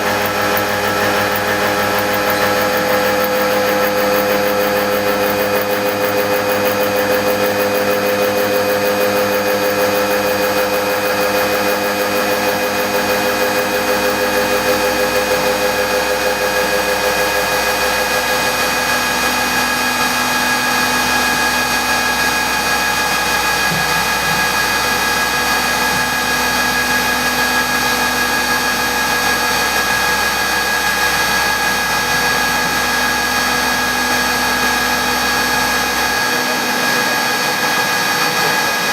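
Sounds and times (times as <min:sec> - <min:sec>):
milling machine whine: 0:00.0 - 0:38.9.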